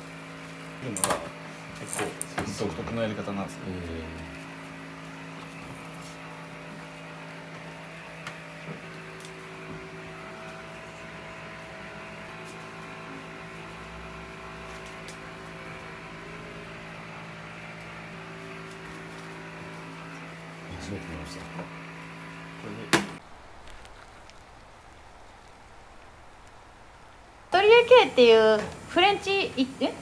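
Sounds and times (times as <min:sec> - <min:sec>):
electrical hum of kitchen machinery: 0:00.0 - 0:30.0.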